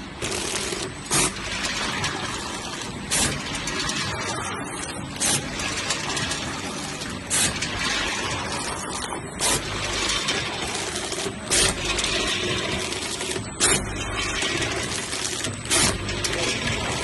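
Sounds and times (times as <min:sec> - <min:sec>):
packing machine clatter: 0:00.0 - 0:17.0.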